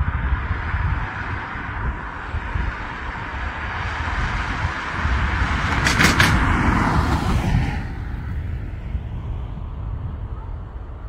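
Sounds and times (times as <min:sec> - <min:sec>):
jet airliner engines passing: 0:00.0 - 0:11.0
wind rumbling on microphone: 0:00.0 - 0:11.0.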